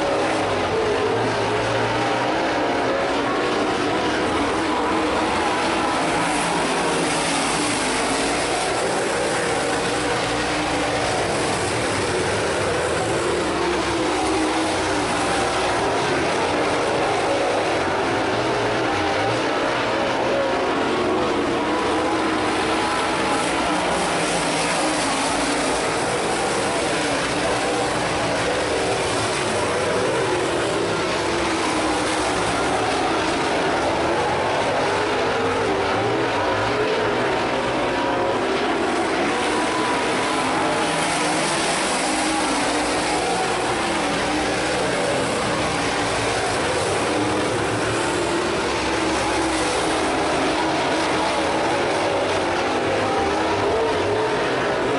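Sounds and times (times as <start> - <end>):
race car engines at speed: 0.0 - 54.9.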